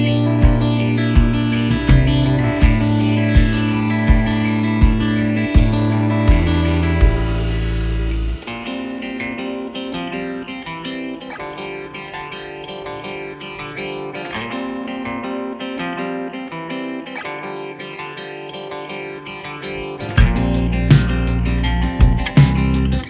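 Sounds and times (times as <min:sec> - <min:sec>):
plucked guitar music: 0:00.0 - 0:23.0.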